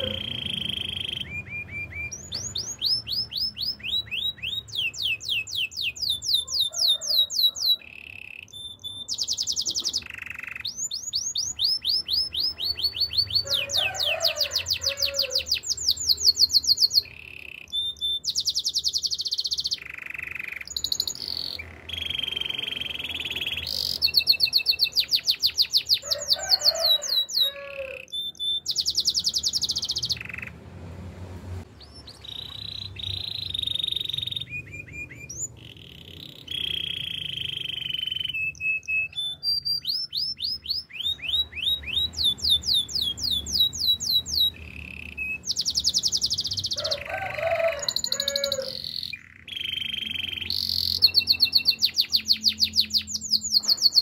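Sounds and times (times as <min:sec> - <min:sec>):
canary singing trills: 0:00.0 - 0:30.6, 0:31.7 - 0:54.0.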